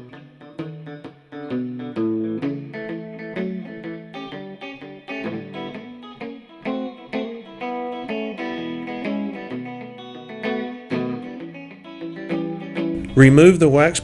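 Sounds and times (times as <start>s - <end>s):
guitar music: 0.0s - 14.0s.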